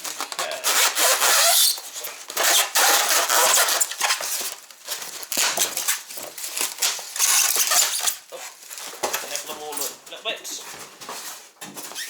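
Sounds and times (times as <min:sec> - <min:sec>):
packing material rustling: 0:00.0 - 0:10.2.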